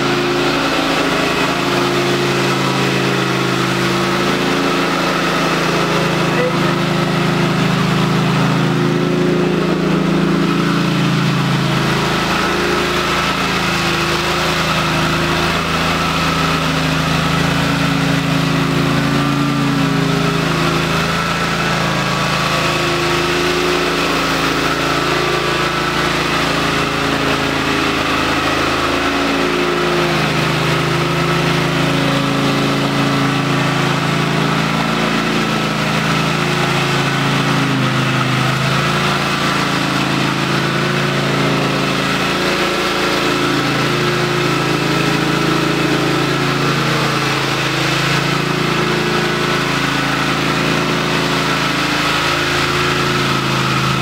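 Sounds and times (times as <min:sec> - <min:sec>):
concrete floor grinder running: 0:00.0 - 0:54.0.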